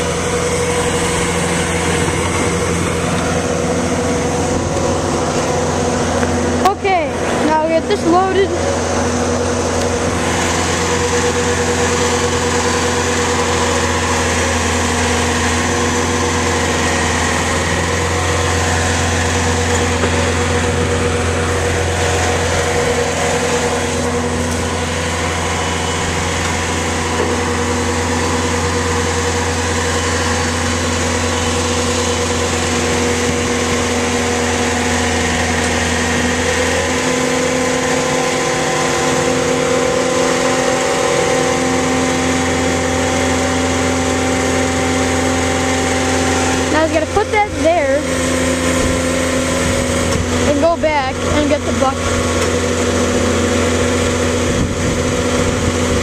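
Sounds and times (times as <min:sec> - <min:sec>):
diesel engine running: 0:00.0 - 0:56.0
low hum: 0:00.0 - 0:56.0.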